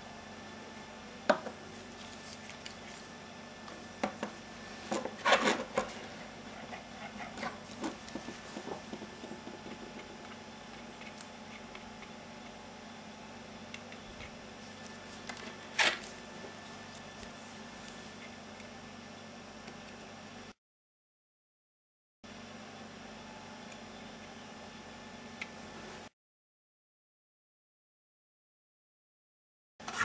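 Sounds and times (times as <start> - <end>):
faint steady hum: 0.0 - 20.6, 22.3 - 26.1.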